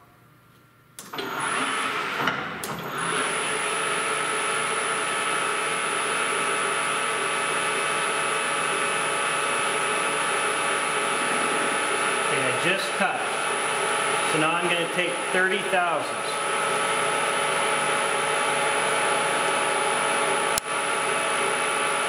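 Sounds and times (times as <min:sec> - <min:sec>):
metal lathe running: 0:01.2 - 0:22.0
high steady whine: 0:02.2 - 0:22.0.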